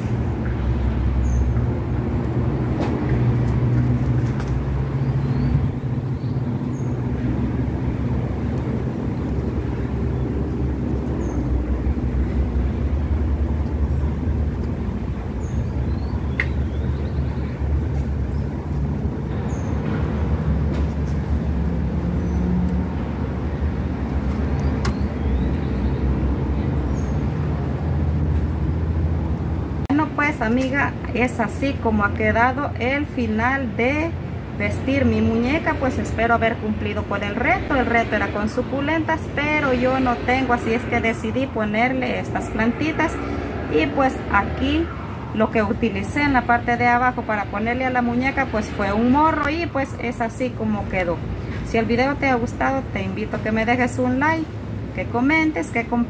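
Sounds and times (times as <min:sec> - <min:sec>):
low engine rumble: 0:00.0 - 0:56.0
low mechanical hum: 0:00.0 - 0:56.0.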